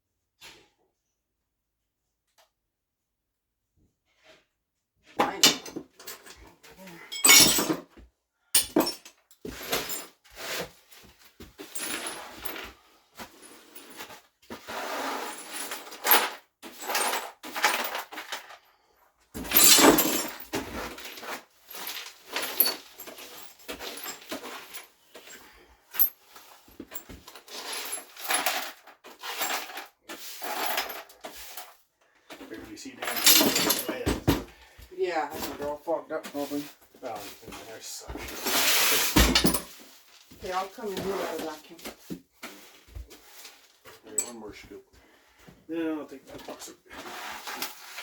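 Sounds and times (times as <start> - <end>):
debris clattering and scraping: 5.1 - 8.0, 8.6 - 18.6, 19.4 - 45.4, 46.1 - 48.0.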